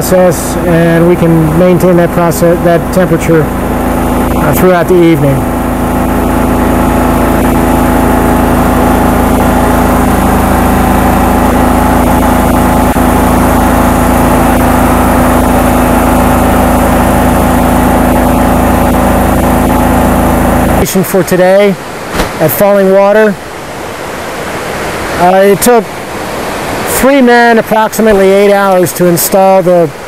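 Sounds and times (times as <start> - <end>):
machine engine humming steadily: 0.0 - 30.0.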